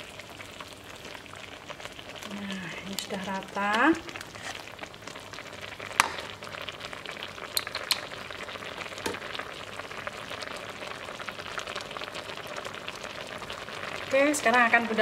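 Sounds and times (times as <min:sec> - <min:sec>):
liquid simmering and crackling: 0:00.0 - 0:15.0.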